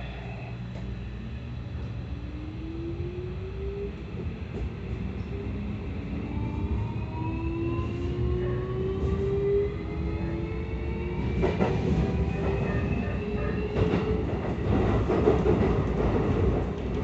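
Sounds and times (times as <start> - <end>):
train motor whine: 0.0 - 14.3
low train rumble: 0.0 - 17.0.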